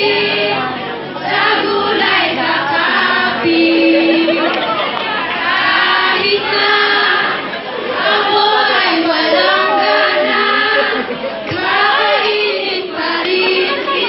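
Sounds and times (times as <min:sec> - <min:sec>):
choir singing a jingle: 0:00.0 - 0:14.0.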